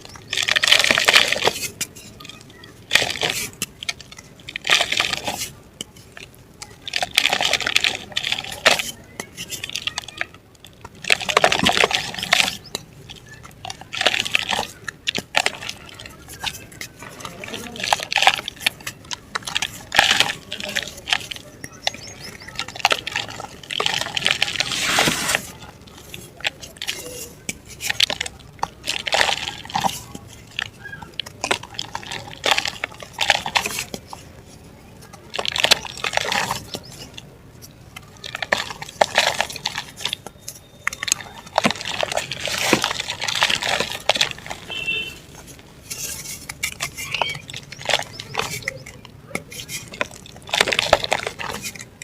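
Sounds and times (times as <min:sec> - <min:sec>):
dry mud crunching: 0:00.0 - 0:52.0.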